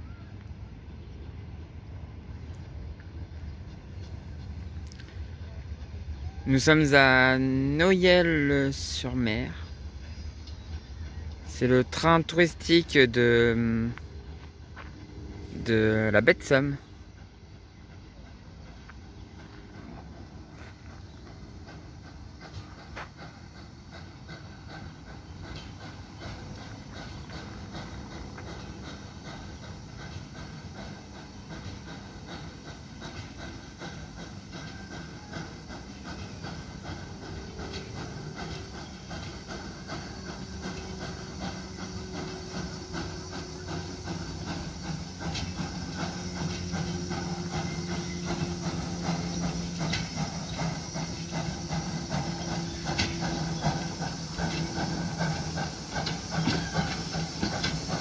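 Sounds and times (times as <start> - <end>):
steam locomotive chugging: 0.0 - 58.0
steam hissing: 1.0 - 58.0.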